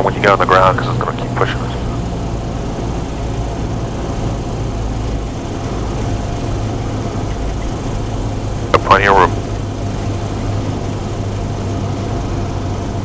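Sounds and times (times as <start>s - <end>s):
aircraft engine and propeller droning: 0.0s - 13.0s.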